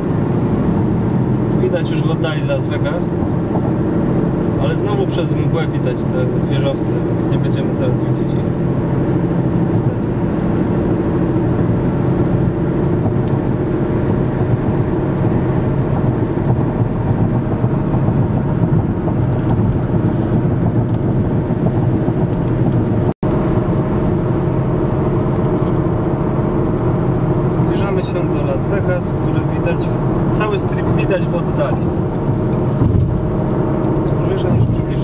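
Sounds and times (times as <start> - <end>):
car road noise from cabin: 0.0 - 35.0.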